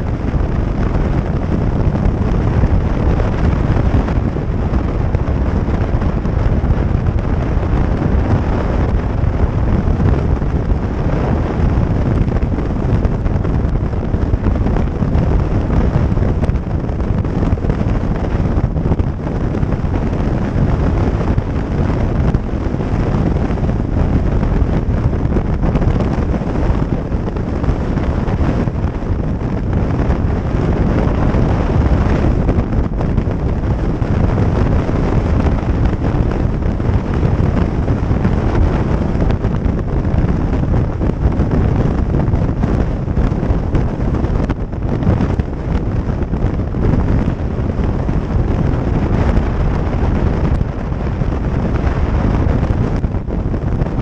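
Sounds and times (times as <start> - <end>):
motorcycle running: 0.0 - 54.0
wind buffeting microphone: 0.0 - 54.0.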